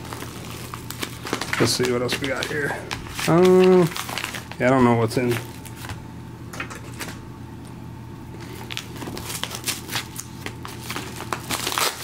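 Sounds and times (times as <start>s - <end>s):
paper envelopes rustling: 0.0s - 6.0s, 8.4s - 12.0s
low steady hum: 0.0s - 12.0s.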